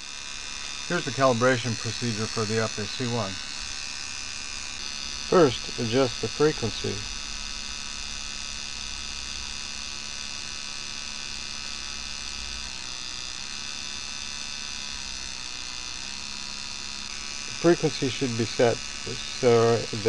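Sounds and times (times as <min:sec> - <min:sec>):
electrical hum with overtones: 0:00.0 - 0:20.0.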